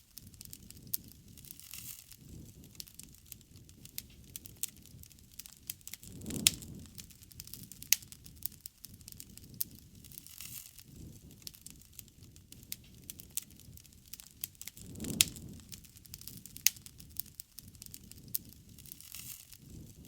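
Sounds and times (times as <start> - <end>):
campfire crackling and popping: 0.0 - 20.0
low rush of flame: 0.0 - 20.0.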